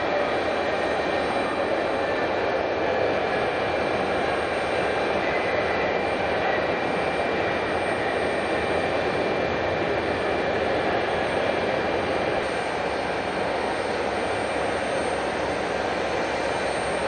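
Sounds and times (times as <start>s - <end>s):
faint high whine: 0.0s - 17.0s
jet engines roaring: 0.0s - 17.0s.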